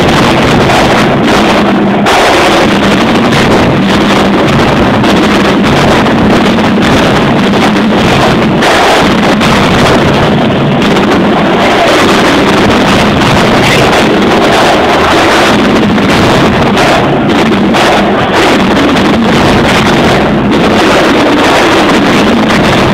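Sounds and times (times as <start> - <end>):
distorted marching drumline: 0.0 - 22.9.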